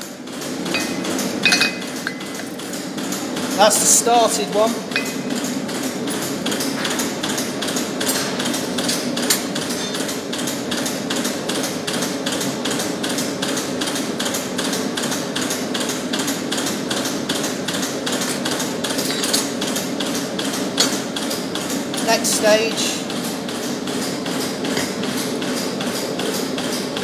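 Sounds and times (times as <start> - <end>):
gas forge roaring: 0.0 - 27.0.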